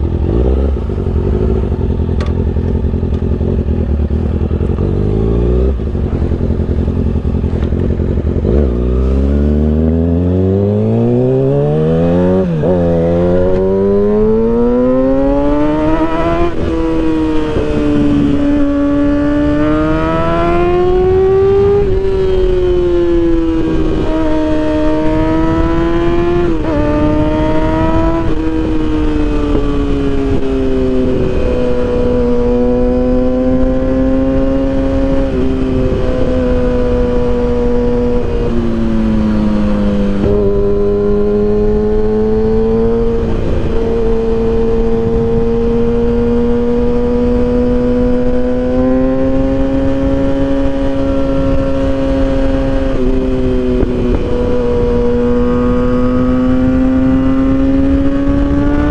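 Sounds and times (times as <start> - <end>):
motorcycle engine at high revs: 0.0 - 58.9.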